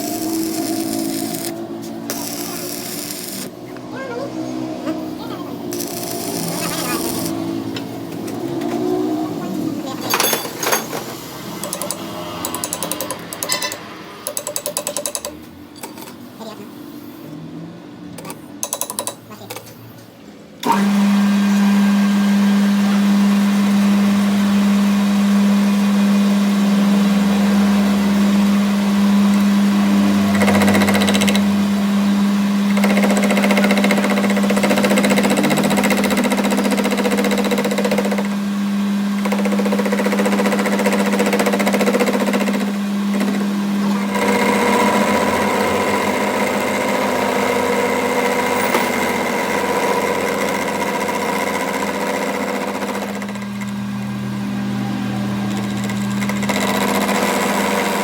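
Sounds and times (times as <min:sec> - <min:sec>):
workshop machine humming: 0:00.0 - 0:58.0.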